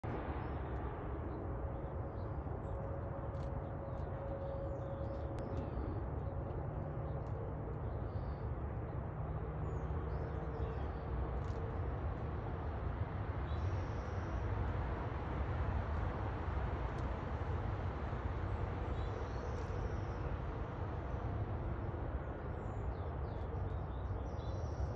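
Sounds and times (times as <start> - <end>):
low background rumble: 0.0 - 24.9.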